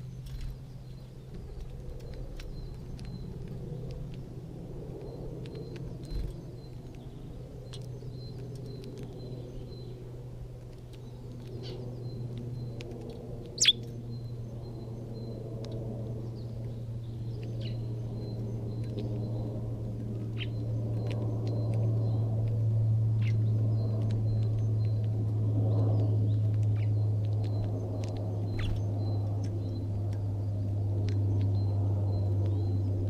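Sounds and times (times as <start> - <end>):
small birds chirping: 0.0 - 33.0
steady low rumble: 0.0 - 33.0.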